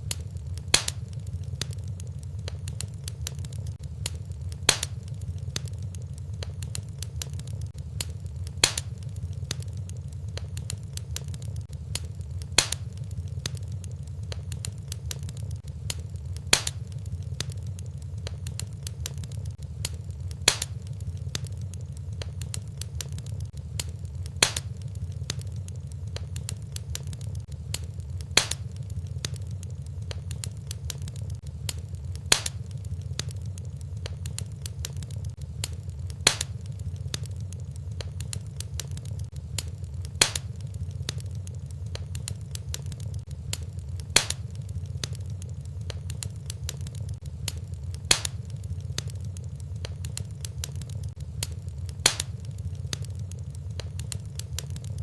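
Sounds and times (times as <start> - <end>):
sharp fire pop: 0.0 - 13.7, 14.3 - 21.5, 22.2 - 25.5, 26.1 - 53.2
wood fire crackling: 0.0 - 55.0.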